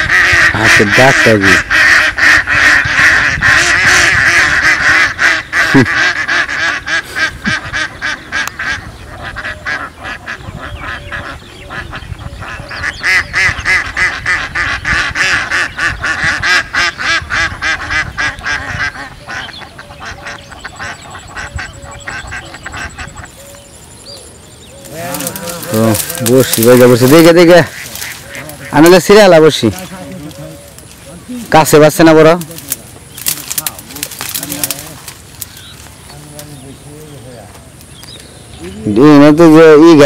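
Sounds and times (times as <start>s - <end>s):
ducks quacking: 0.0s - 24.0s, 24.6s - 40.0s.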